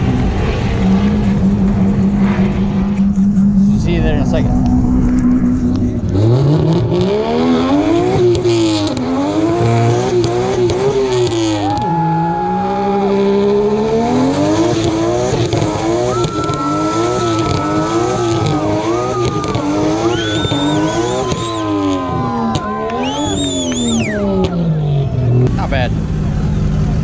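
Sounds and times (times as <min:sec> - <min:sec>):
car engine revving hard: 0:00.0 - 0:27.0.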